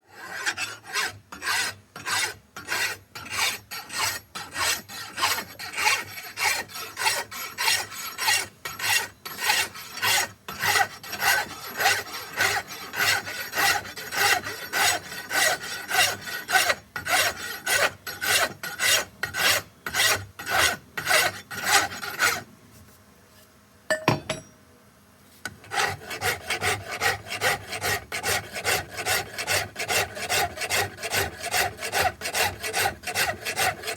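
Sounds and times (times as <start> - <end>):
hand rasp filing wood: 0.0 - 22.4, 25.6 - 33.9.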